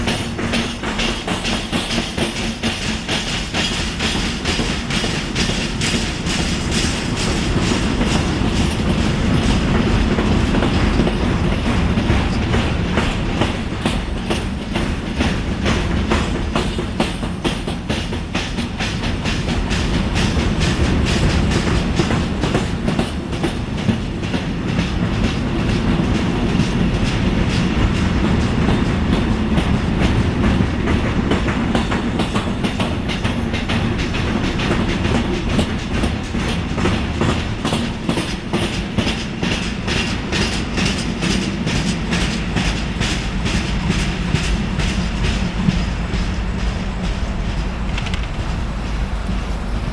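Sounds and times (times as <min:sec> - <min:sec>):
flat wheels knocking on rail: 0:00.0 - 0:49.9
freight wagon wheels rumbling: 0:00.0 - 0:49.9.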